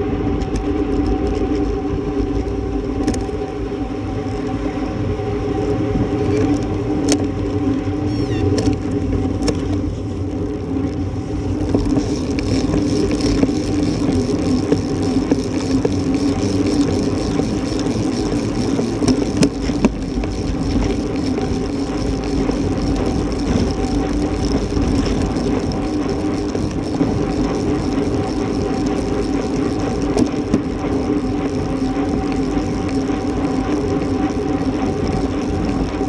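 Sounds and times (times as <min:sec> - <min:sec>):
wind and road noise: 0:00.0 - 0:36.0.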